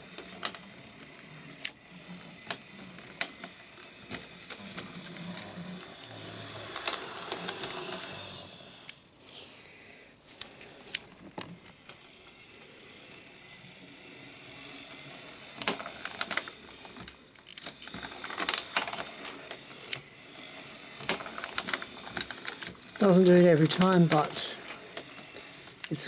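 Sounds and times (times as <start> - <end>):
wheels clicking over rail joints: 0.0 - 9.0, 10.4 - 26.0
small electric motor whirring: 0.0 - 9.4, 10.4 - 26.0.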